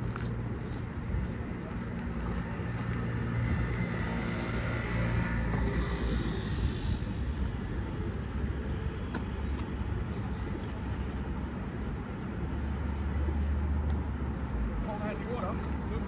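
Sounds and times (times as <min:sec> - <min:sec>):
steady low city rumble: 0:00.0 - 0:16.0.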